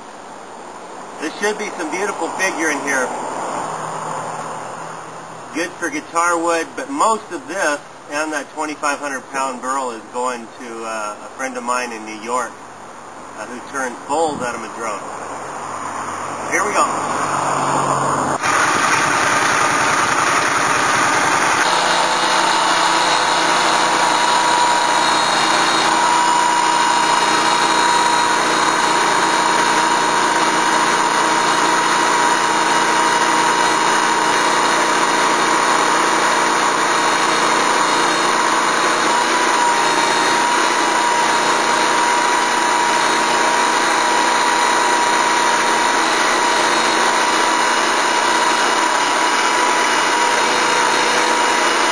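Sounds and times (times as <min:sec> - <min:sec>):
sawmill engine running: 0:01.0 - 0:12.3, 0:13.2 - 0:51.9
saw blade whine: 0:01.2 - 0:10.0, 0:15.6 - 0:51.9.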